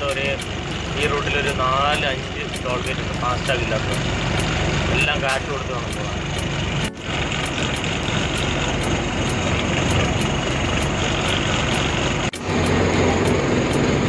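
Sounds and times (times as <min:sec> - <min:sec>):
truck engine and road noise: 0:00.0 - 0:14.0.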